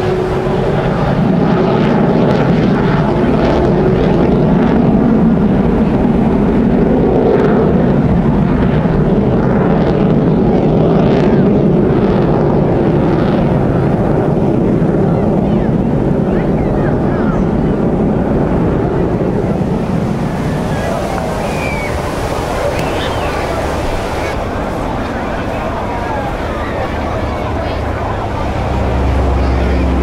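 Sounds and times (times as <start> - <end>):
aircraft engines droning: 0.0 - 30.0.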